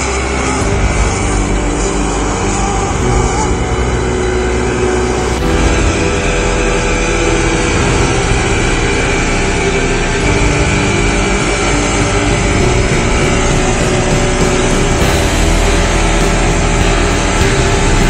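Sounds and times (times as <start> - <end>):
leaf blower running: 0.0 - 18.0.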